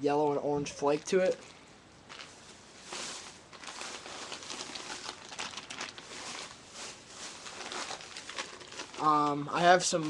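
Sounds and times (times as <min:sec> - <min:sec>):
plastic packages crinkling: 0:00.8 - 0:10.0.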